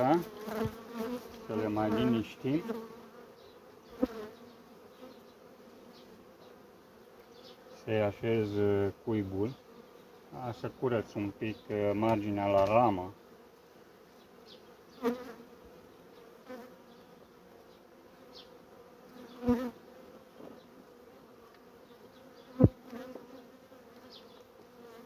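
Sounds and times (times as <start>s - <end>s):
honeybees humming: 0.0s - 25.0s.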